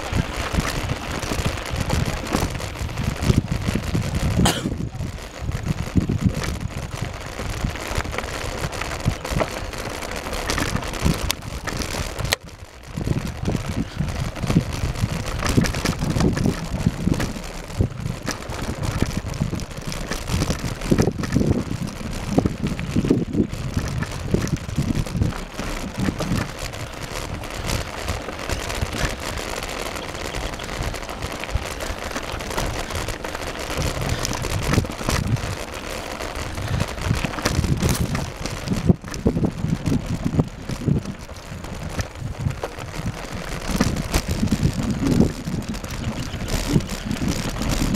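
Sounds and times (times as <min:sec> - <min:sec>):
rattling bike tyre and frame: 0:00.0 - 0:47.9
wind rumble on microphone: 0:00.0 - 0:47.9.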